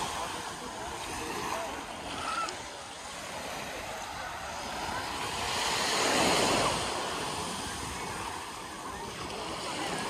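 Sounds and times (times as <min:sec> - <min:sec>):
small waves washing on sand: 0:00.0 - 0:10.0.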